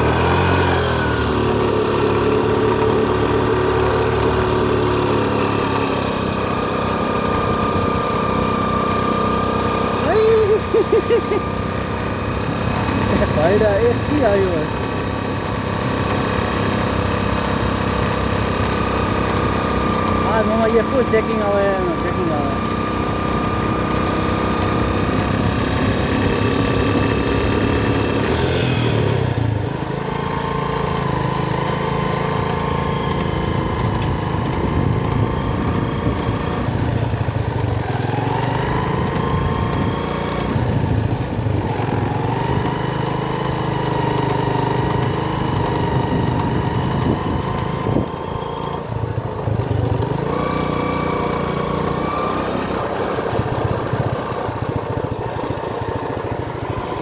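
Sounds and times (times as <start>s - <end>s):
vehicle engine driving: 0.0s - 57.0s.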